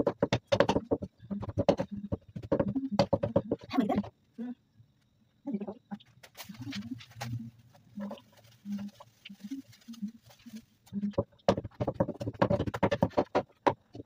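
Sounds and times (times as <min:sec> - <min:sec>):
wooden spoon mashing in pot: 0:00.0 - 0:04.1, 0:06.3 - 0:14.0.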